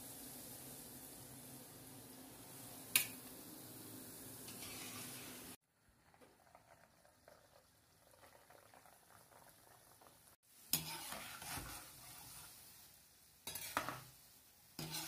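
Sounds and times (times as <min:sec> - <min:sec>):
oil bubbling and sizzling: 0:00.0 - 0:15.0.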